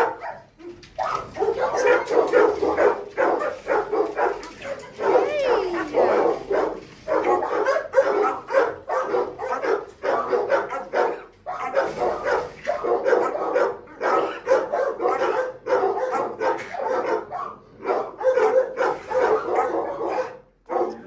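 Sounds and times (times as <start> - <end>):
dog yelping: 0.0 - 21.0
dogs barking: 0.0 - 21.0.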